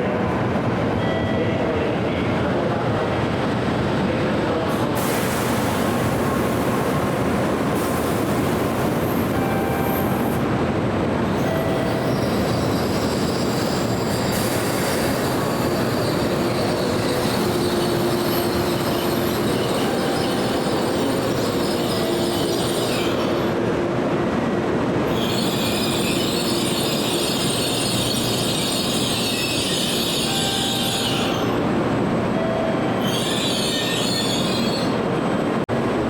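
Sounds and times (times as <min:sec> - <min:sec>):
train running noise: 0:00.0 - 0:36.0.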